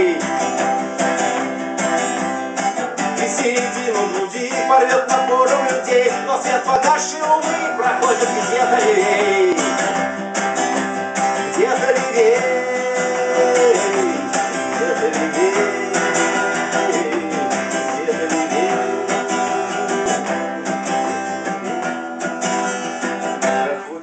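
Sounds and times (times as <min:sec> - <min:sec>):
bending melody line: 0:00.0 - 0:23.9
acoustic guitar strumming: 0:00.0 - 0:24.0.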